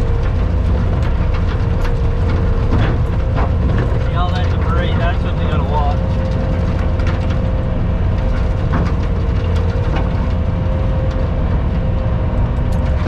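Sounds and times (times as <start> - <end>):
heavy engine running under load: 0.0 - 13.0.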